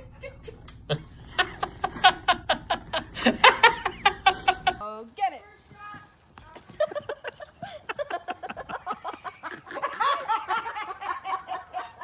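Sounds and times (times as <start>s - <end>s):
laughter in quick bursts: 0.0s - 4.8s, 6.8s - 12.0s.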